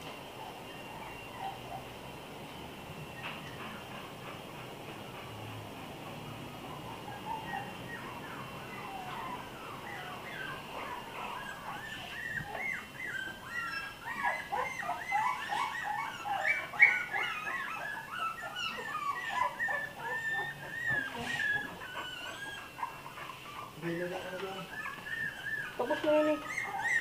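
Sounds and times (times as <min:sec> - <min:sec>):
puppies whining: 0:00.0 - 0:27.0.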